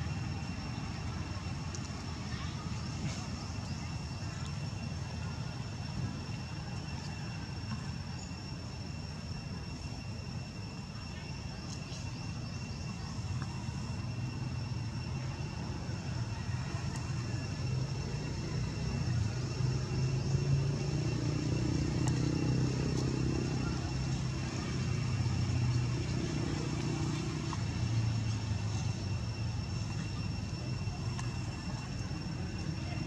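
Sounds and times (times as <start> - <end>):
vehicle engine drone: 0.0 - 33.0.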